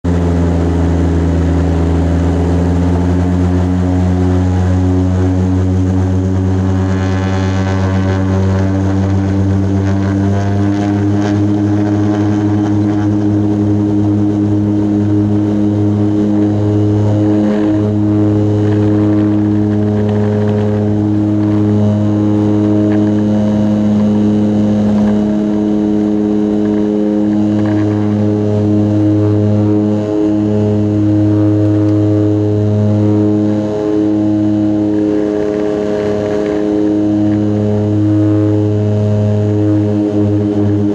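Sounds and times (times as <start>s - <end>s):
propeller aircraft engine drone: 0.0s - 40.9s.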